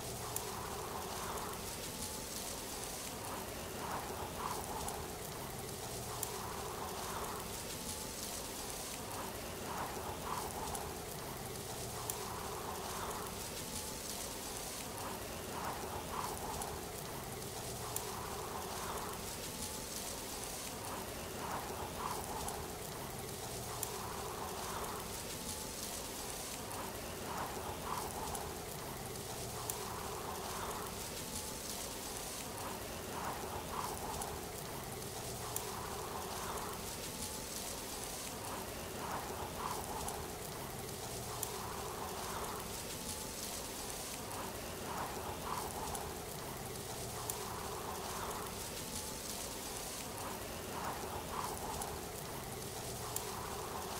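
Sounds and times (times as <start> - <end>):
faint clicks: 0.0 - 53.9
hiss of falling water: 0.0 - 53.9.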